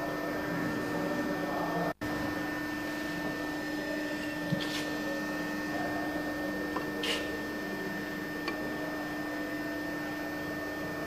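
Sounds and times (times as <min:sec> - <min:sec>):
machine hum and whir: 0:00.0 - 0:11.0.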